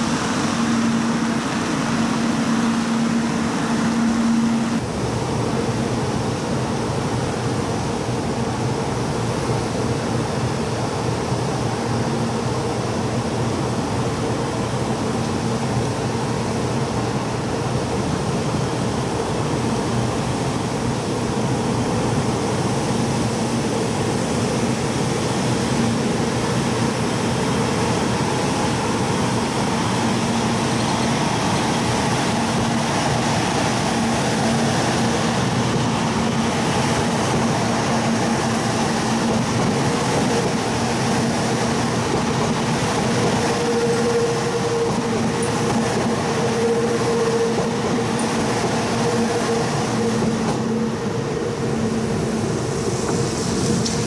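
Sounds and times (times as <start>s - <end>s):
train rolling past: 0.0s - 54.0s
two-tone train hum: 0.0s - 54.0s.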